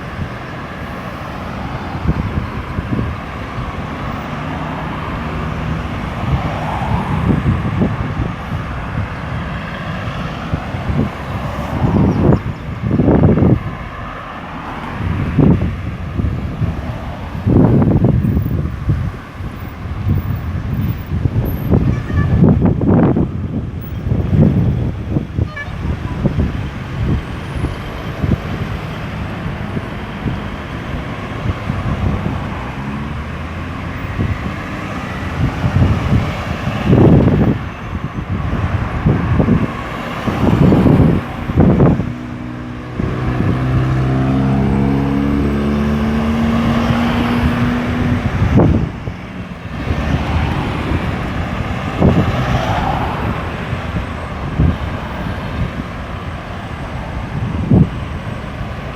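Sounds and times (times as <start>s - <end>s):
road traffic rumble: 0.0s - 58.9s.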